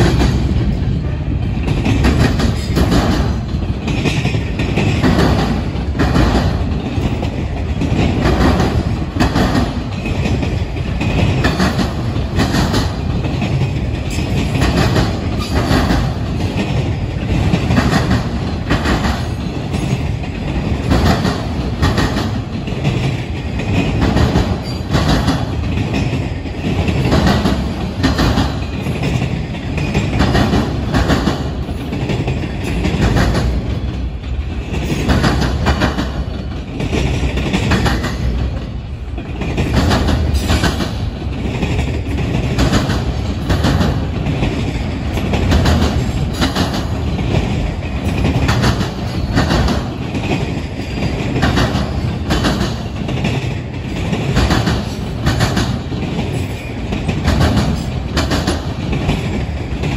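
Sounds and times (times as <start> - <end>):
steel wheels rumbling on rail: 0.0 - 59.9
wheels clacking over rail joints: 0.0 - 59.9.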